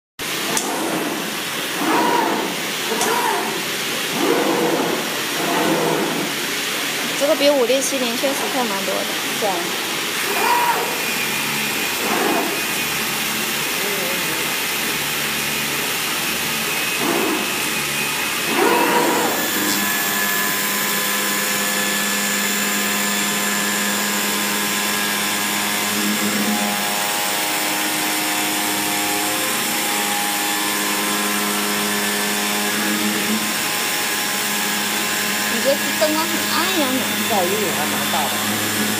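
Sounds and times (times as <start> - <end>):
cutting machine hissing: 0.2 - 38.9
motor whine: 0.2 - 38.9
steady whining tones: 0.2 - 38.9.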